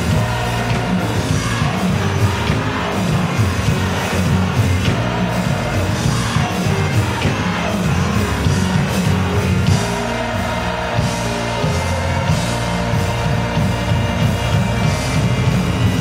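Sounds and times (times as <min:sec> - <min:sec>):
gospel choir singing: 0:00.0 - 0:16.0
heavy bass line: 0:00.0 - 0:16.0.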